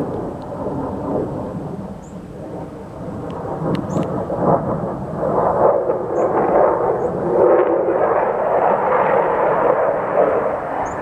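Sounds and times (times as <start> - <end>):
low-flying aircraft engine roar: 0.0 - 11.0.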